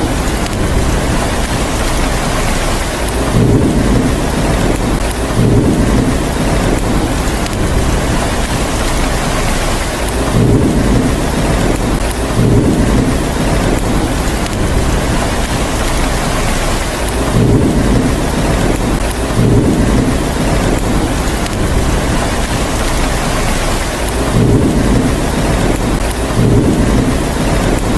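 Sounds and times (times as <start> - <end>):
heavy rain: 0.0 - 27.9
thunder rumbles: 0.0 - 27.9.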